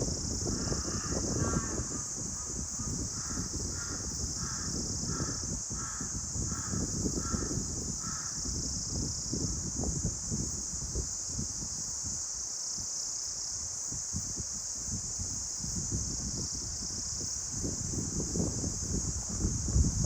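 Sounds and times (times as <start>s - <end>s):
high insect drone: 0.0s - 20.0s
wind in trees: 0.0s - 20.0s.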